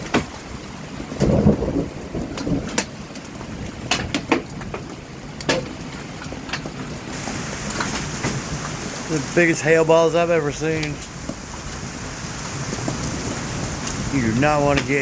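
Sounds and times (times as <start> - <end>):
hailstones hitting the ground: 0.0 - 15.0
rain hiss: 0.0 - 15.0.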